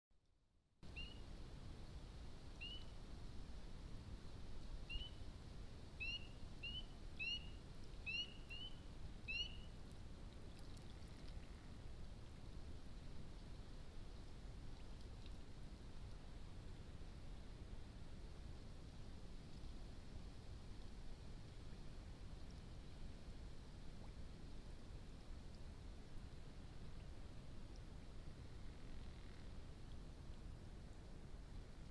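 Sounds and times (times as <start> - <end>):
steady low hiss: 0.8 - 31.9.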